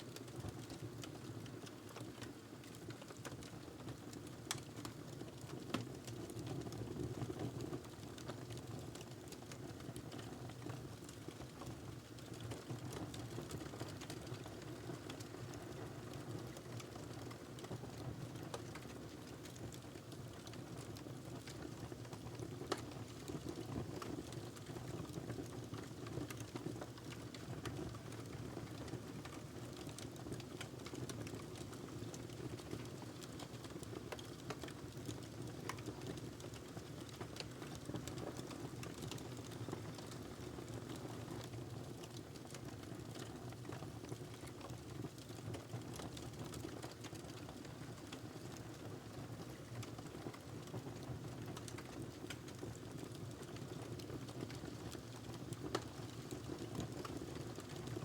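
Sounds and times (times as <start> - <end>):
log crackling in fireplace: 0.1 - 58.0.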